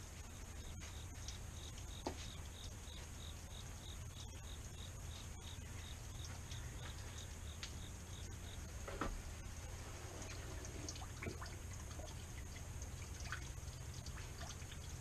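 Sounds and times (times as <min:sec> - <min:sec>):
crickets chirping: 0:00.0 - 0:15.0
high insect hum: 0:00.0 - 0:15.0.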